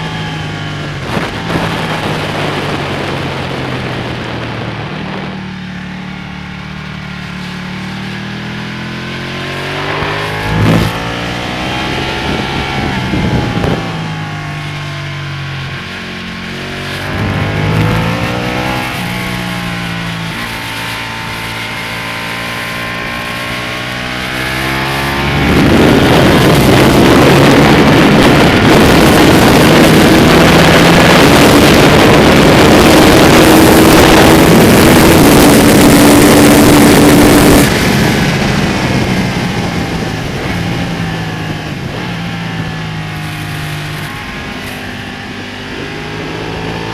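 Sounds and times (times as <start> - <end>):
wind rush over microphone: 0.0 - 6.5, 7.7 - 46.9
motorcycle engine revving: 0.0 - 46.9.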